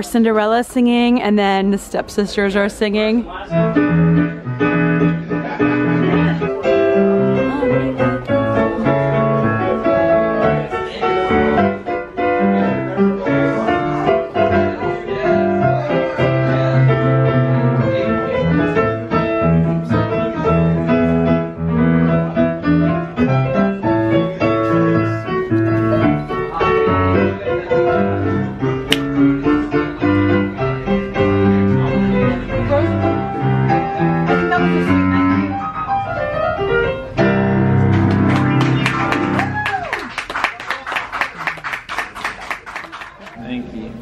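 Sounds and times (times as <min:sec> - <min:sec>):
piano music: 0:02.9 - 0:40.3.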